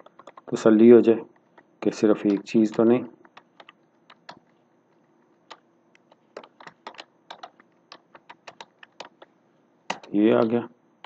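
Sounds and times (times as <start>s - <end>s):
keyboard typing: 0.0s - 9.3s, 9.9s - 10.6s.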